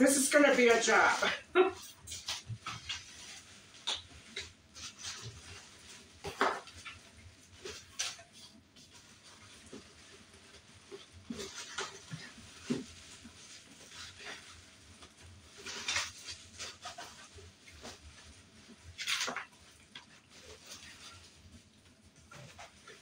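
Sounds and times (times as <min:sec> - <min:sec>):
packing rustling and scraping: 0:00.1 - 0:23.0.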